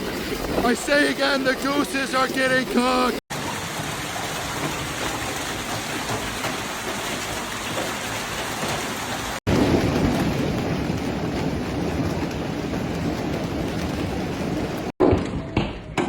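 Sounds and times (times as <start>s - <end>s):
hailstones hitting surfaces: 0.0s - 15.2s.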